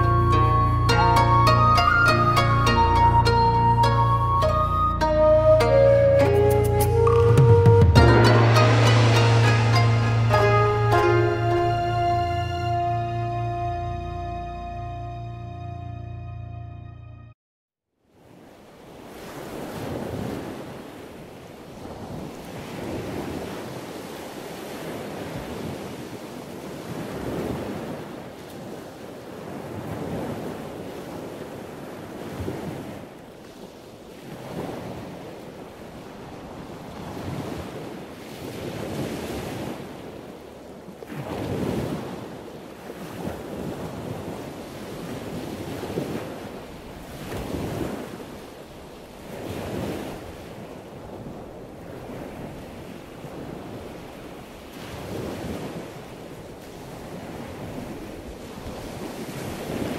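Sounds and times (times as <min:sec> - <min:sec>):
ocean waves washing in: 0:00.0 - 0:14.2, 0:18.1 - 0:59.9.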